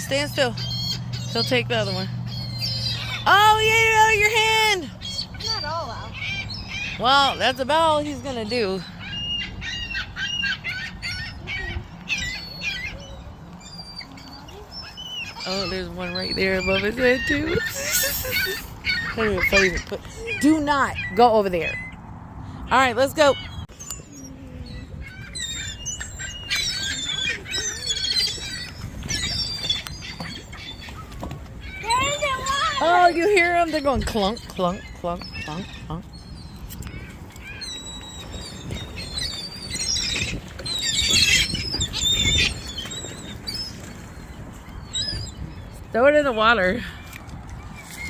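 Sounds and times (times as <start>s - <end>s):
seagulls squawking: 0.0s - 48.0s.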